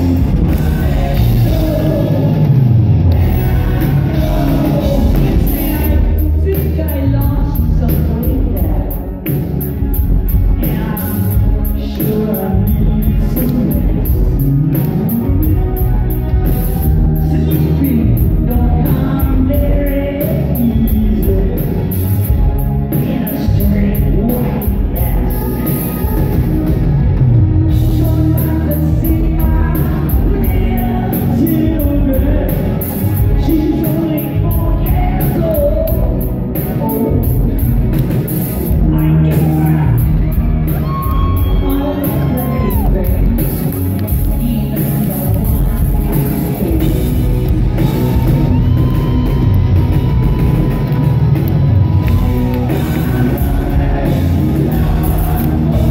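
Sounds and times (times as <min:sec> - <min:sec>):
man singing into a microphone: 0:00.0 - 0:09.3, 0:10.5 - 0:15.6, 0:16.8 - 0:22.0, 0:22.9 - 0:26.6, 0:27.7 - 0:37.8, 0:38.6 - 0:47.3, 0:52.7 - 0:55.9
live rock band playing: 0:00.0 - 0:55.9.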